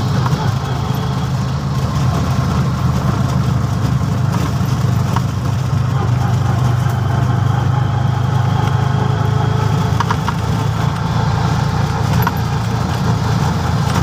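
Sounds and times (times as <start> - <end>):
auto-rickshaw engine running: 0.0 - 14.0.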